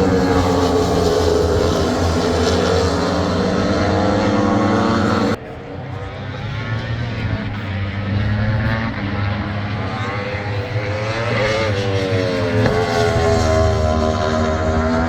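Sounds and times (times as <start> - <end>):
superbike engines at high revs: 0.0 - 5.4, 6.3 - 15.0.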